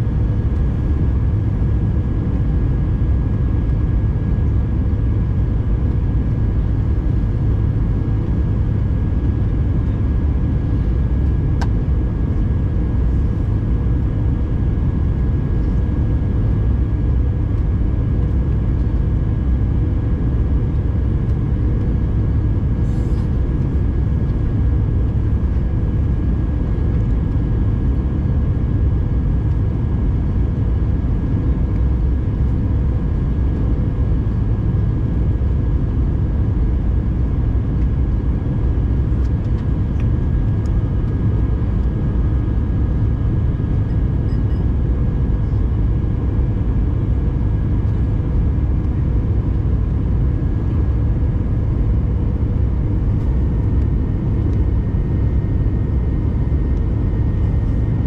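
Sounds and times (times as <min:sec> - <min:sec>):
aircraft cabin rumble: 0:00.0 - 0:58.0
faint steady hum: 0:00.0 - 0:58.0.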